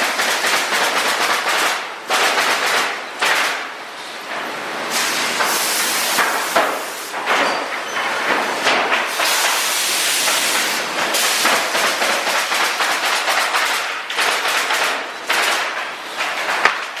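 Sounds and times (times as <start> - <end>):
air nailer hissing exhaust: 0.0 - 3.8, 4.8 - 7.8, 8.4 - 16.3
rapid mechanical clacking: 0.0 - 4.5, 5.4 - 17.0.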